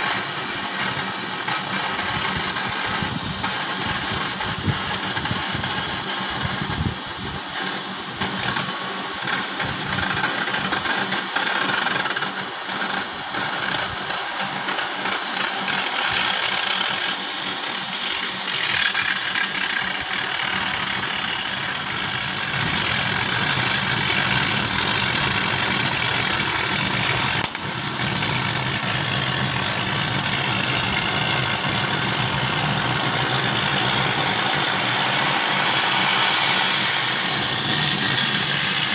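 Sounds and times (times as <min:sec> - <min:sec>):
cutting torch hissing: 0:00.0 - 0:38.9.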